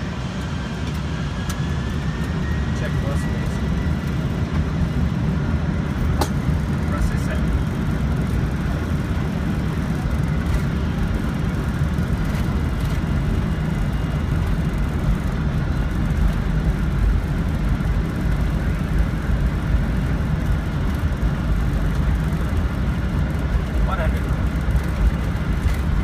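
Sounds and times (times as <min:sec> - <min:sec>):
jet engine rumble in cockpit: 0:00.0 - 0:26.0.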